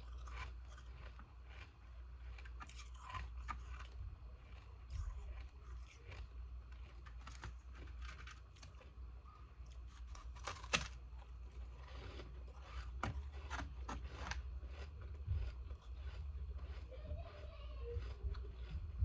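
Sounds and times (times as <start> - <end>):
ice crunching in mouth: 0.0 - 8.9, 9.7 - 16.8
steady low hum: 0.0 - 19.0.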